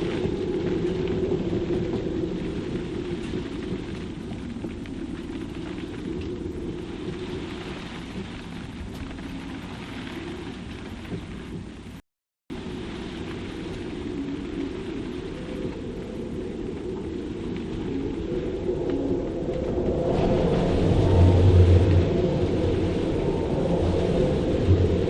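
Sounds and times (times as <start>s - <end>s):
raindrop ticks: 0.0s - 12.0s, 12.6s - 25.0s
wind howling through rigging: 0.0s - 25.0s.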